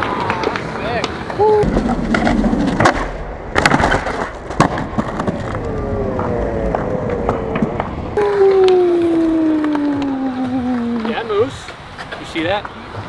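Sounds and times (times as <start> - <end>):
skateboard clacking on ground: 0.0 - 13.0
skateboard wheels rolling: 0.0 - 13.0.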